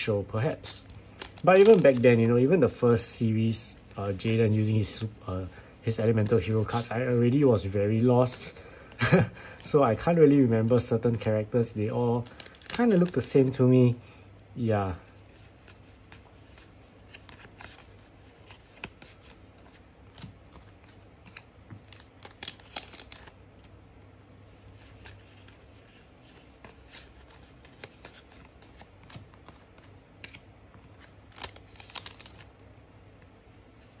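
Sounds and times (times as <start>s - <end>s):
cards rustling and flicking: 0.0s - 14.0s, 15.1s - 23.8s, 24.5s - 34.0s
low steady hum: 0.0s - 34.0s.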